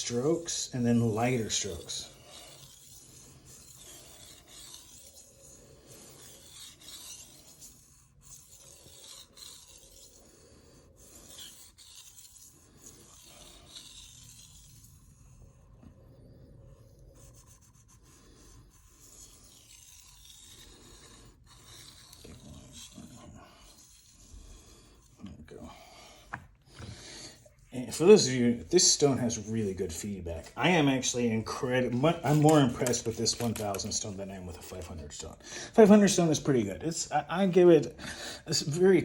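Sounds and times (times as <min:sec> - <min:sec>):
knife scraping on whetstone: 0:00.0 - 0:35.3.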